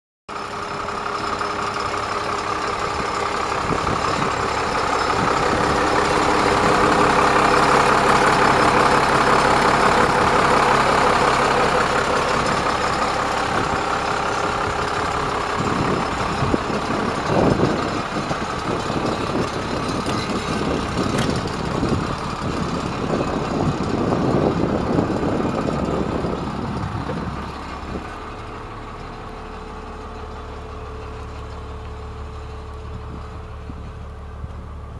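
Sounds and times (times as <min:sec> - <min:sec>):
bus engine idling: 0:00.3 - 0:34.9.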